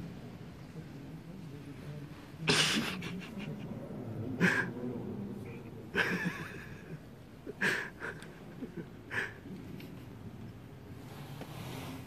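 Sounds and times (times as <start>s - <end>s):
murmur of people: 0.0s - 10.4s.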